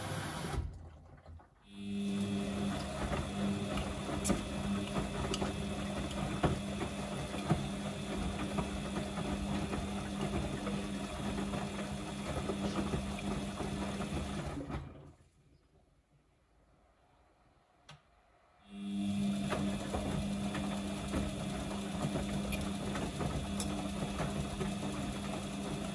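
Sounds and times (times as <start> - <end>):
washing machine drum humming: 0.0 - 15.2, 18.7 - 25.9.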